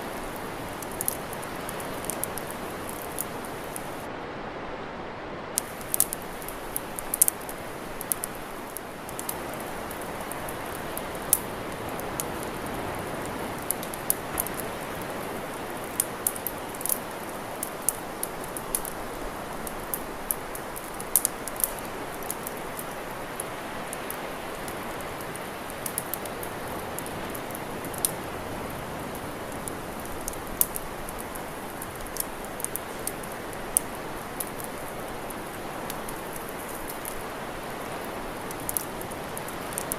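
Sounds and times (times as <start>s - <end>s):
campfire crackling and popping: 0.0s - 4.1s, 5.6s - 39.9s.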